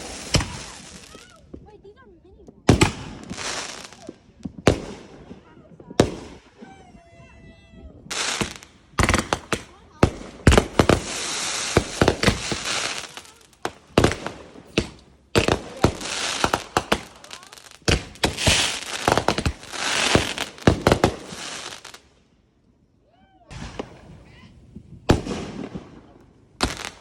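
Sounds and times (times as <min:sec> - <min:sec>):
fireworks bangs and crackling: 0:00.0 - 0:22.2, 0:23.5 - 0:27.0.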